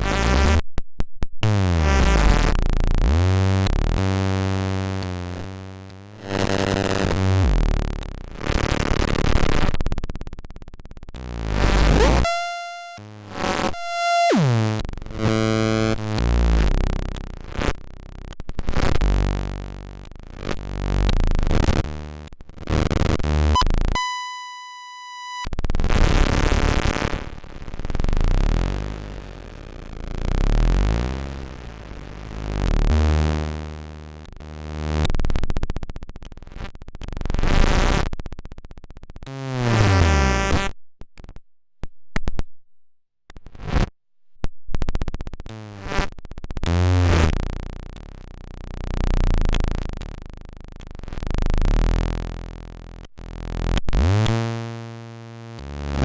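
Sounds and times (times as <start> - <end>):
modular synthesizer noise and buzzing tones: 1.4 - 38.2, 45.3 - 56.0.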